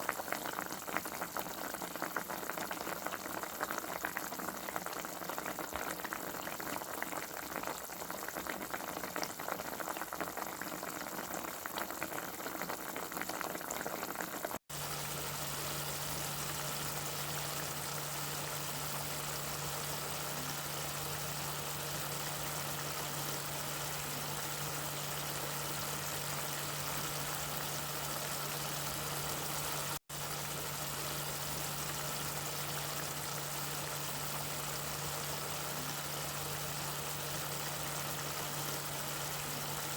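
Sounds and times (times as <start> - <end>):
pot boiling with bubbling: 0.0 - 39.9.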